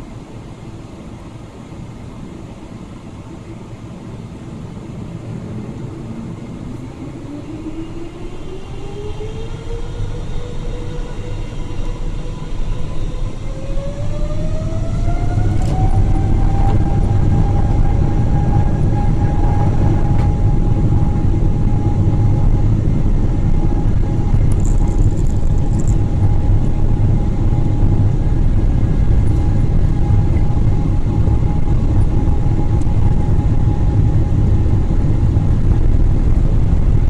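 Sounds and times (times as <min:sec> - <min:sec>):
jet engine whine climbing in pitch: 0:00.0 - 0:37.0
low rumble of takeoff roll: 0:00.0 - 0:37.0.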